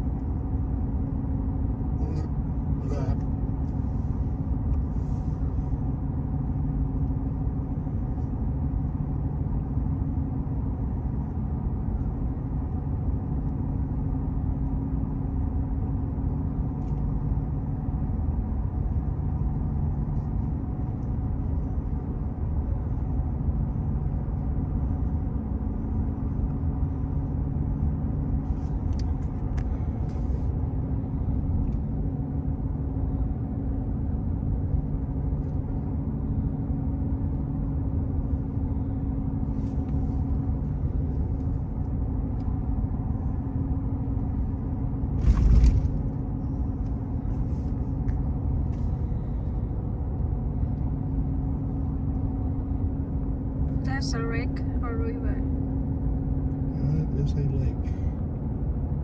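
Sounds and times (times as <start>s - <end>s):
car driving on paved road: 0.0s - 59.0s.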